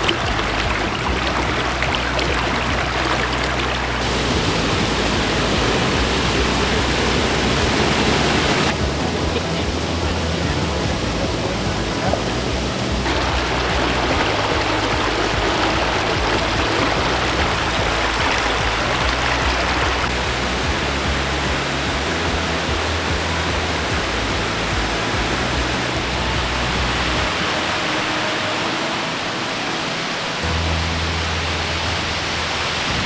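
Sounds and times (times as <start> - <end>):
rushing water: 0.0 - 33.0
soft background music: 0.0 - 33.0.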